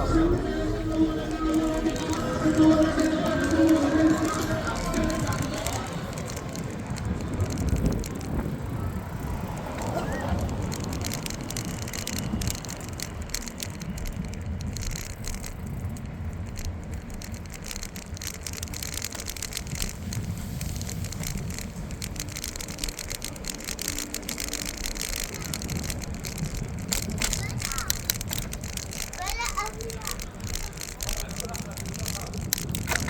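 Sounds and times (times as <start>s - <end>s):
bicycle clicks and rattles: 0.0s - 33.0s
wind buffeting microphone: 0.0s - 33.0s.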